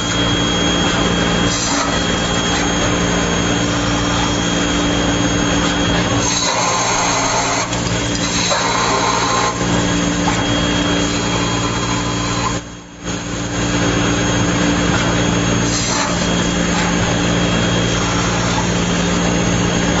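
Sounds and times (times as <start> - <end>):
lathe machining metal: 0.0 - 20.0.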